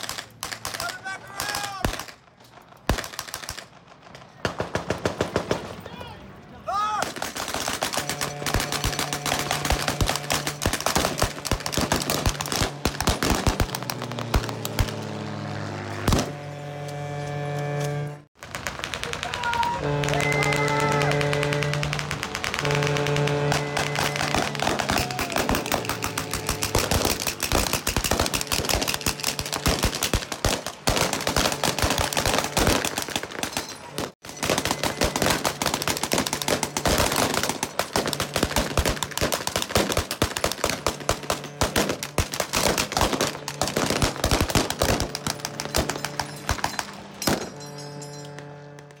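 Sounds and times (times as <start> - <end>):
rapid gunfire: 0.0 - 2.2, 7.0 - 15.1, 18.4 - 47.5.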